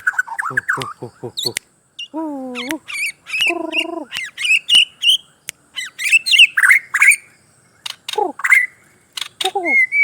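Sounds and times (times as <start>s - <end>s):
bird singing whistled notes: 0.0s - 10.0s.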